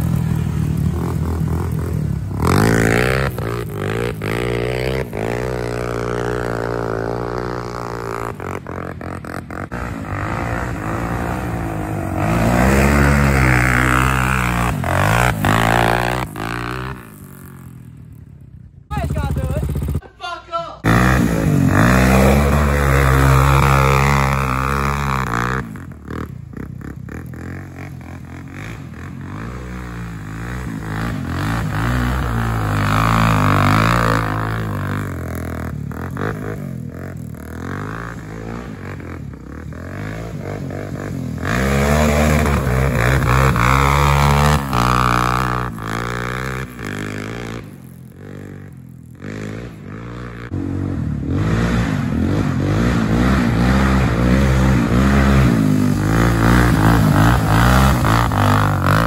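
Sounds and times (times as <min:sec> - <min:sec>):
motorbike engine revving: 0:00.0 - 0:20.1, 0:20.8 - 0:59.0.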